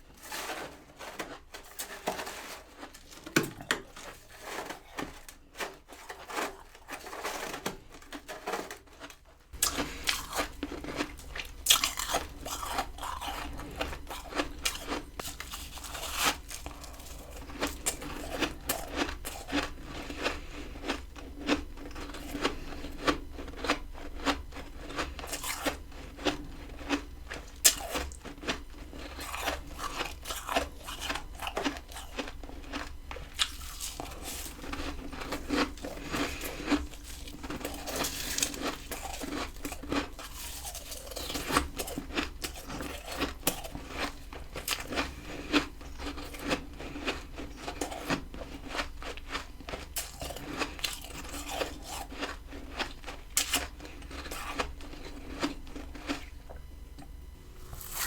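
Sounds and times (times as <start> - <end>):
steady low hum: 0.0 - 58.0
frost being chewed: 0.2 - 58.0.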